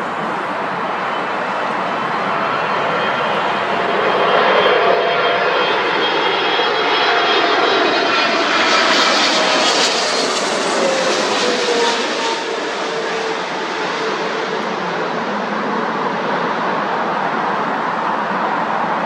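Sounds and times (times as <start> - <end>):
jet airliner engines passing: 0.0 - 19.0.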